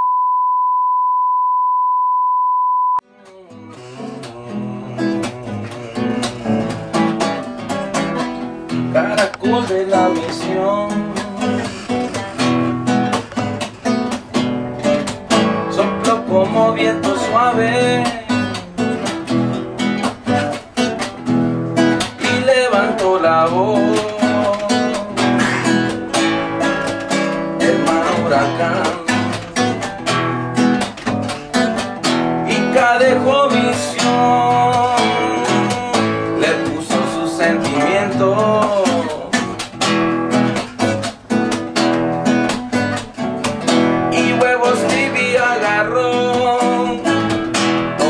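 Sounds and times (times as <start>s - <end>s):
acoustic guitar strummed briskly: 3.2s - 48.0s.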